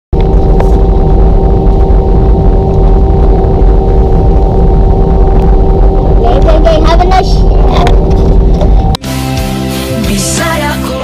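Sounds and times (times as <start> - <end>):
deep rumble: 0.1 - 9.0
airliner engine drone: 0.2 - 9.0
humming tones: 0.2 - 9.0.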